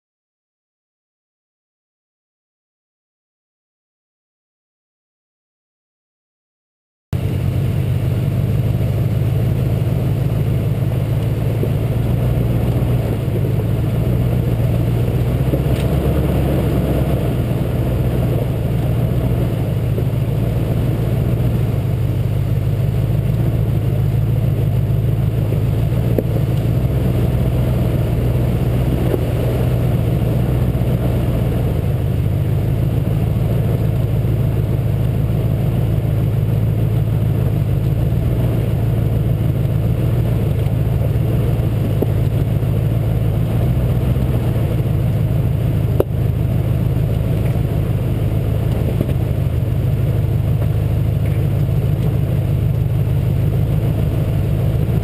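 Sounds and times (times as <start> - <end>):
truck engine running: 7.1 - 55.0.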